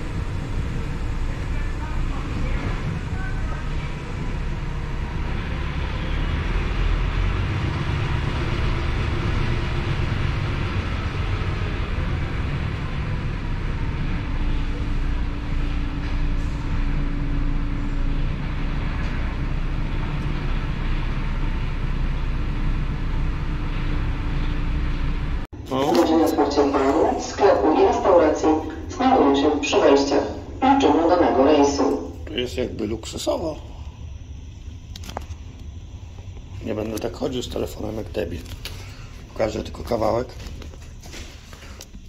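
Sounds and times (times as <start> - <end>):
diesel truck engine rumbling: 0.0 - 41.0.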